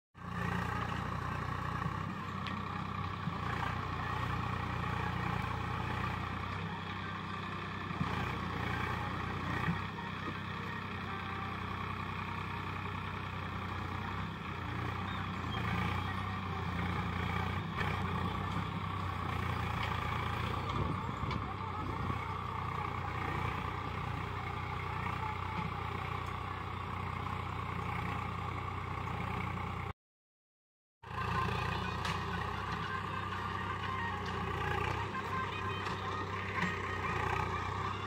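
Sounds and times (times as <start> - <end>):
tractor diesel engine running: 0.2 - 29.9, 31.0 - 38.0.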